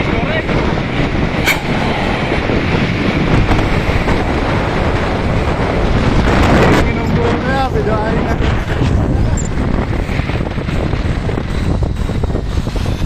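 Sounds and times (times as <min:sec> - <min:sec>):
road traffic rumble: 0:00.0 - 0:13.0
wind buffeting microphone: 0:00.0 - 0:13.0.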